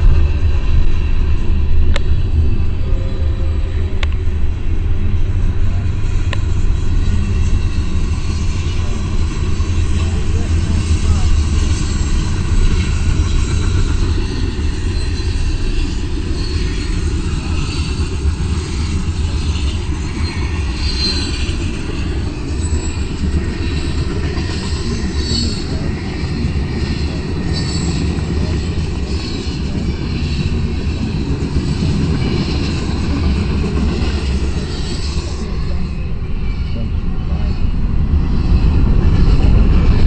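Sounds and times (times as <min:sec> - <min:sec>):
freight train rumbling past: 0:00.0 - 0:40.0
high-pitched train wheel noise: 0:00.0 - 0:40.0.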